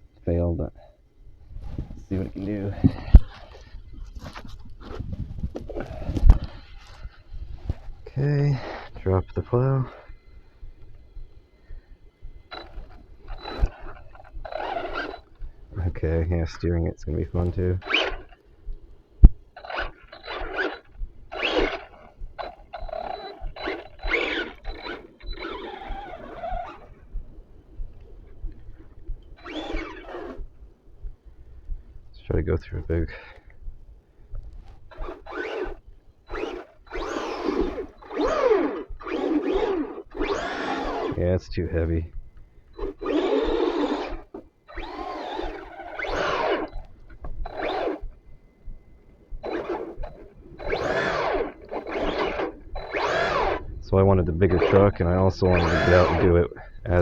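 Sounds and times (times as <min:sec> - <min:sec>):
electric motor whining: 0:00.0 - 0:33.6, 0:34.4 - 0:57.0
thin high whine: 0:00.0 - 0:57.0.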